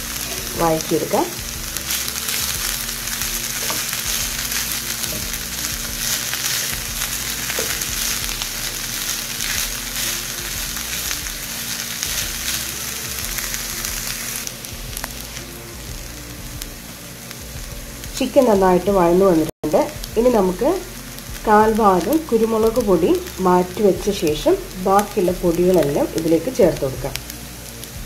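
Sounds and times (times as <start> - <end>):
chicken sizzling in a frying pan: 0.0 - 28.0.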